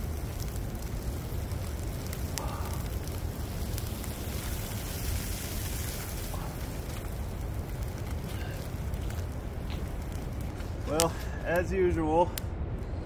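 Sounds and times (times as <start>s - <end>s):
campfire crackling: 0.0s - 13.0s
fire popping: 0.0s - 13.0s
wind rumbling on microphone: 0.0s - 13.0s.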